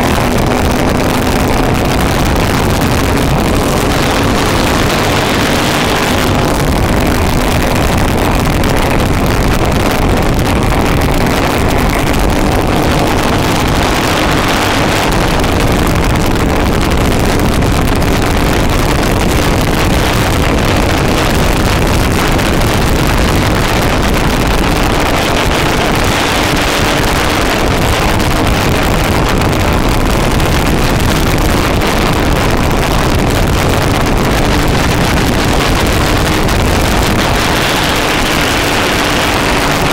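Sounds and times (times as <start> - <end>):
go-kart engine running hard: 0.0 - 39.9
wind buffeting microphone: 0.0 - 39.9.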